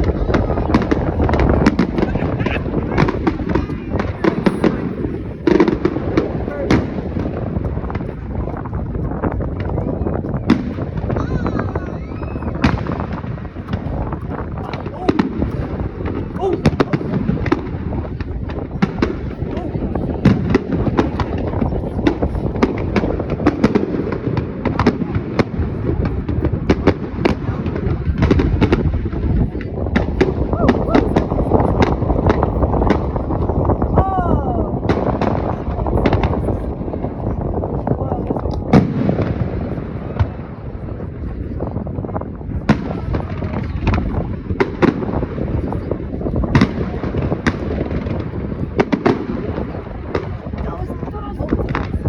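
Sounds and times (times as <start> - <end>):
fireworks bangs: 0.0 - 52.0
steady low rumble: 0.0 - 52.0.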